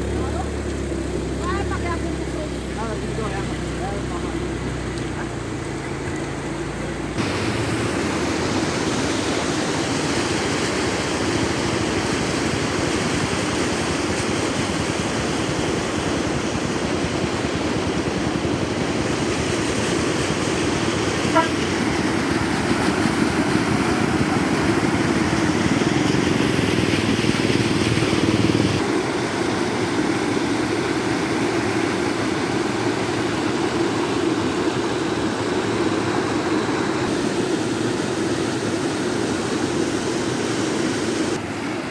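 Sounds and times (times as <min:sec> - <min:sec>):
turbulent river rushing: 0:00.0 - 0:41.9.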